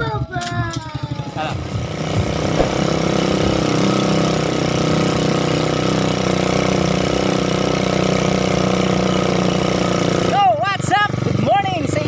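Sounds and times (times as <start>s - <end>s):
small motorcycle engine running: 1.1s - 12.0s.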